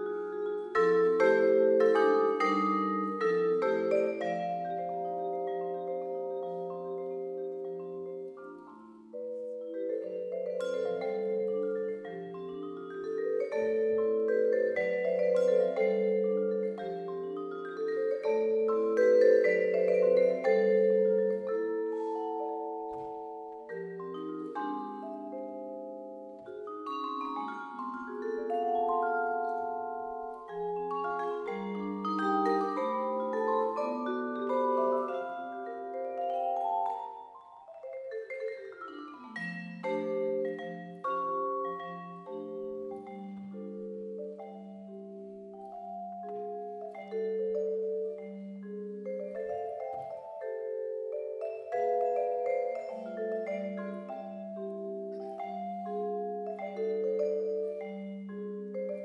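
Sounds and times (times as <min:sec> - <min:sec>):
vibraphone played with mallets: 0:00.0 - 0:59.0.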